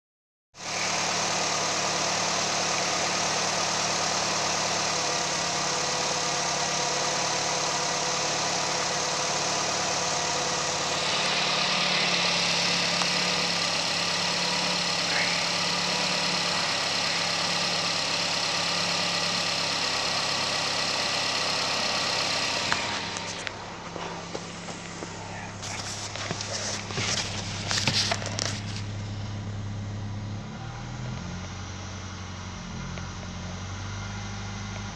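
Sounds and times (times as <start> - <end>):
car engine idling: 0.6 - 34.9.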